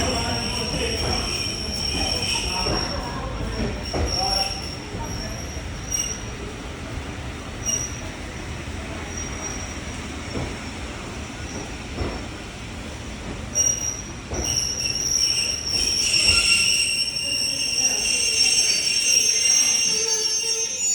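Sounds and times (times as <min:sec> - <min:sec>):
brake and wheel squeal: 0:00.0 - 0:06.5, 0:07.6 - 0:10.6, 0:13.6 - 0:20.9
train rumbling: 0:00.0 - 0:20.9.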